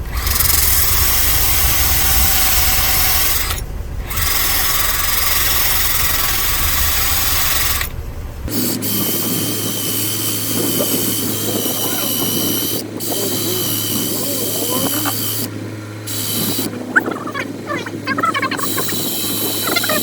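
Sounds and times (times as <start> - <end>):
handheld power tool running: 0.0 - 16.8, 18.7 - 20.0.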